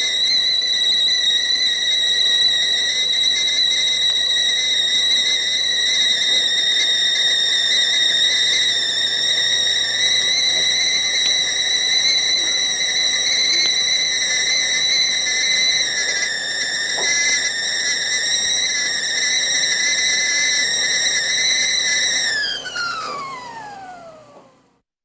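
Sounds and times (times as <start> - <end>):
kettle whistling: 0.0 - 24.8.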